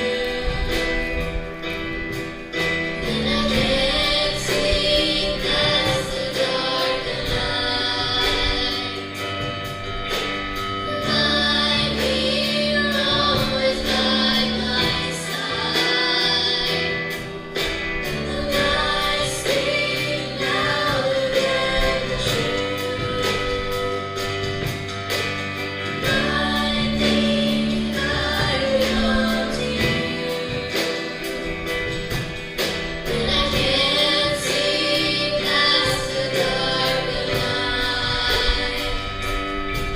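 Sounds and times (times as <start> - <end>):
choir singing: 0.0 - 24.9, 25.6 - 39.9
instrumental backing with steady beat: 0.0 - 39.9.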